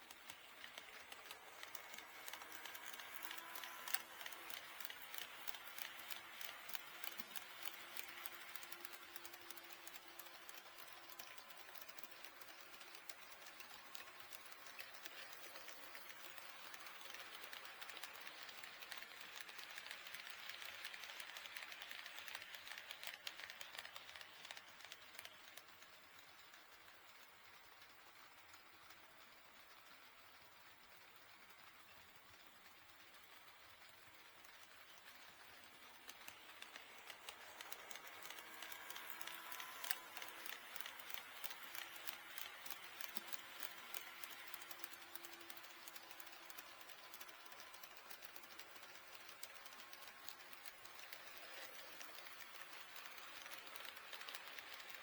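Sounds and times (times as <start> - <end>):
faint motor whine: 0.0 - 55.0
model train wheels clicking: 0.0 - 55.0.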